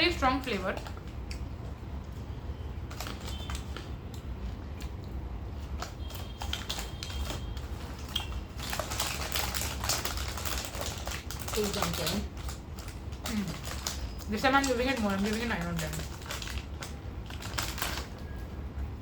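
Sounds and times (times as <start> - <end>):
crunching puffed snacks: 0.1 - 18.4.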